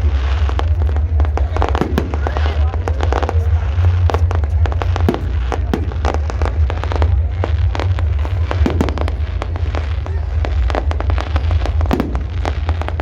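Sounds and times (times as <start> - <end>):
fireworks bangs and crackles: 0.0 - 13.0
low rumble: 0.0 - 13.0.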